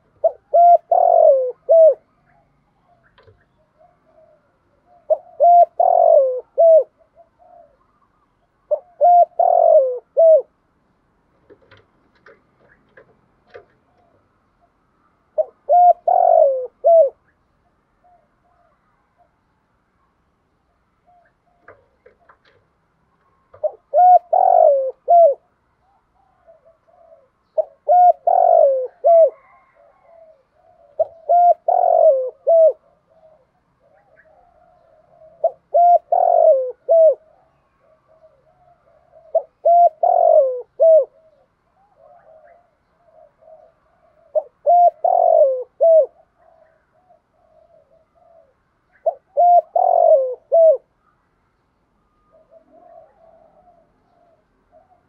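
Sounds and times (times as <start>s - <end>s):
dove cooing: 0.0s - 19.4s, 21.0s - 51.1s, 52.0s - 55.0s.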